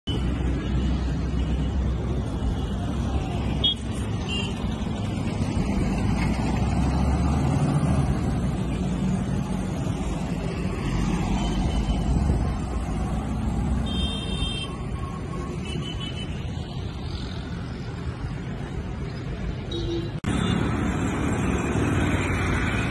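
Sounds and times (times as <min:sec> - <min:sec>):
road traffic rumble: 0:00.0 - 0:22.9.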